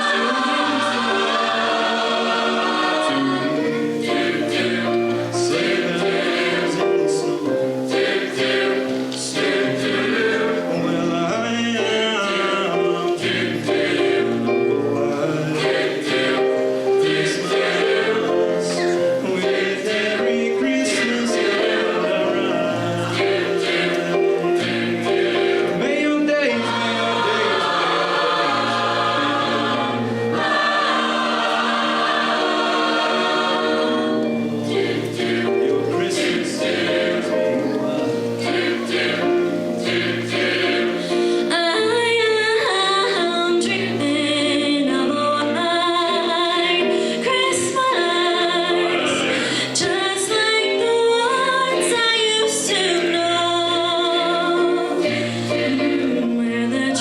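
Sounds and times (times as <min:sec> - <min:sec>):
choir singing: 0:00.0 - 0:57.0
instrumental accompaniment: 0:00.0 - 0:57.0.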